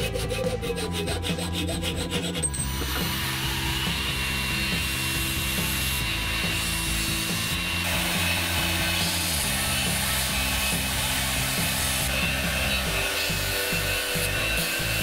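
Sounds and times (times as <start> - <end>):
background music: 0.0 - 15.0
belt grinder grinding metal: 0.0 - 15.0
hacksaw cutting metal tube: 0.0 - 15.0.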